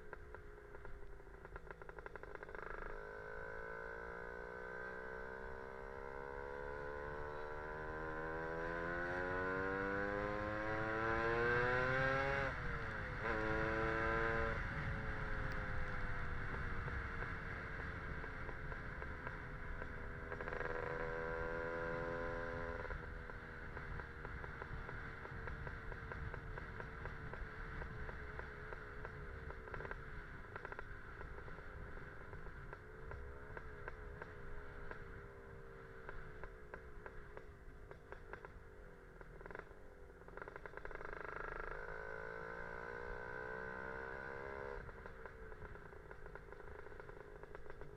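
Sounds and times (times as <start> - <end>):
wind and road rumble: 0.0 - 47.9.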